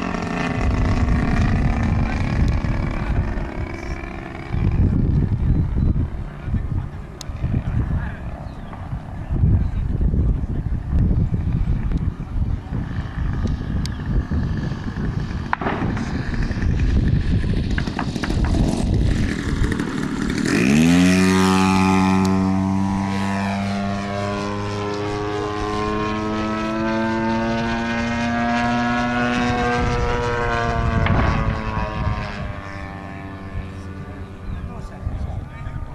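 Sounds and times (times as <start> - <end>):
model airplane engine droning: 0.0 - 35.9.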